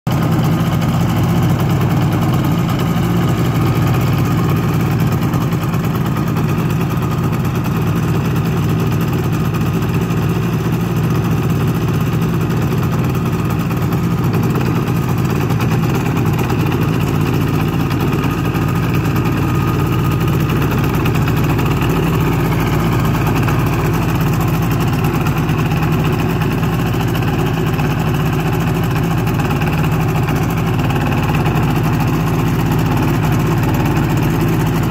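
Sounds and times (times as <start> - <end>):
two-stroke engine running steadily: 0.1 - 34.9.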